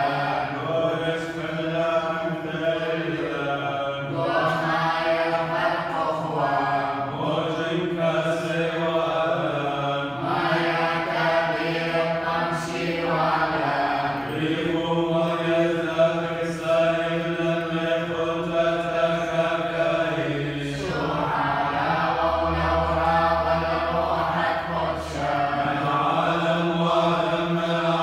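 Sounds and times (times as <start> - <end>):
liturgical chanting: 0.0 - 28.0
steady low drone note: 5.3 - 28.0.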